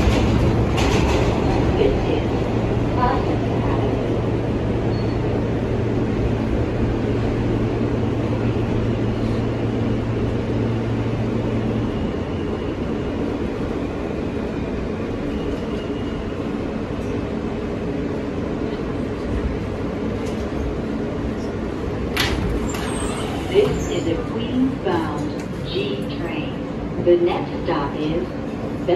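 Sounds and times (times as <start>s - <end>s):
subway wheels rumbling on rails: 0.0s - 28.9s.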